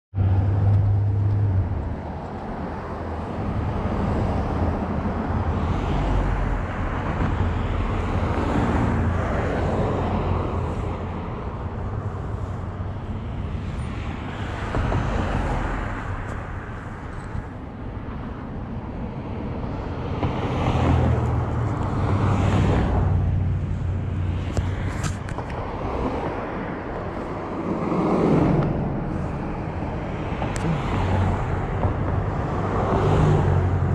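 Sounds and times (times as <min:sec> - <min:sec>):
steady low traffic rumble: 0:00.1 - 0:33.9
cars passing: 0:00.2 - 0:33.9.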